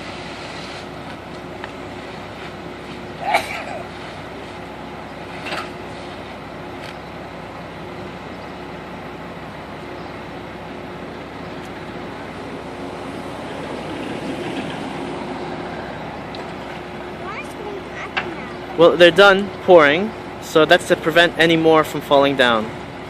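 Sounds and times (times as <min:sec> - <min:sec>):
concrete mixer truck running: 0:00.0 - 0:23.0.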